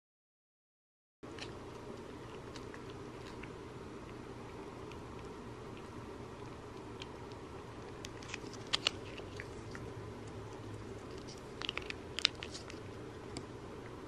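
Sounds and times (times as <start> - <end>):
cats licking and smacking lips: 1.3 - 14.0.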